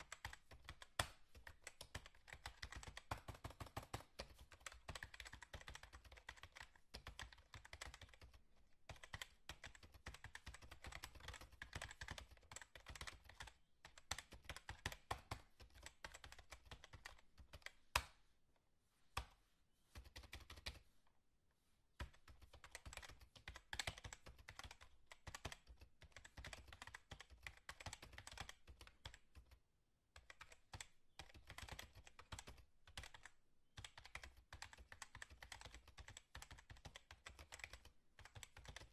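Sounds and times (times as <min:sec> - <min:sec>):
rapid keyboard typing: 0:00.0 - 0:18.0, 0:20.0 - 0:20.8, 0:22.0 - 0:29.6, 0:30.2 - 0:38.9.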